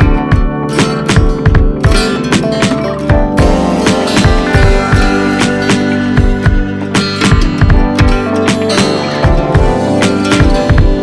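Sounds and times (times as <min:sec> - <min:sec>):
fast plucked guitar music: 0:00.0 - 0:11.0.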